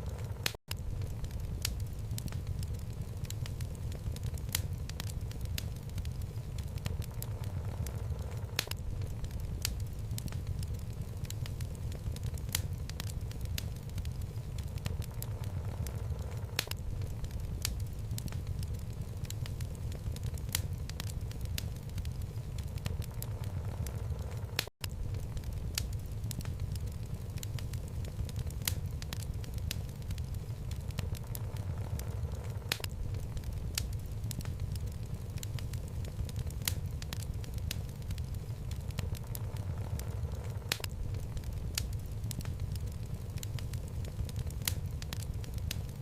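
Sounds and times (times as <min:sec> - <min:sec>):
fire flames rumbling: 0:00.0 - 0:46.0
logs crackling and popping: 0:00.0 - 0:46.0.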